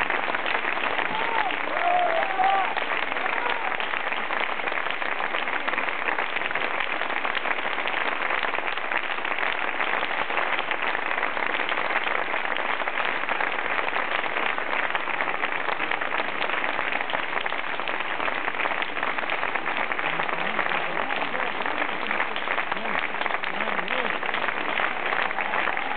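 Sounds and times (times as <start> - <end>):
audience applauding: 0.0 - 25.9.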